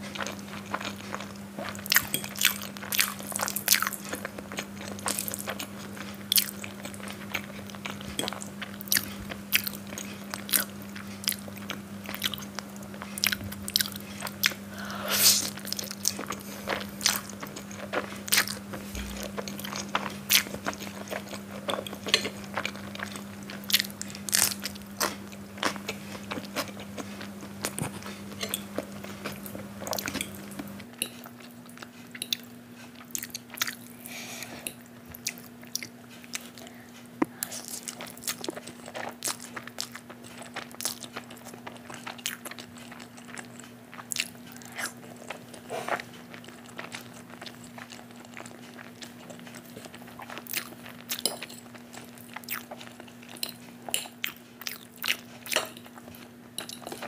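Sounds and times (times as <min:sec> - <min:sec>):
chewing noodles: 0:00.0 - 0:57.0
steady low hum: 0:00.0 - 0:57.0.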